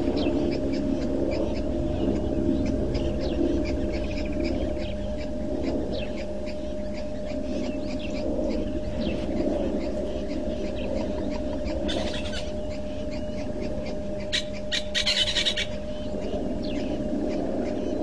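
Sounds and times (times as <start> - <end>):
small birds chirping rapidly: 0.0 - 18.0
steady low hum: 0.0 - 18.0.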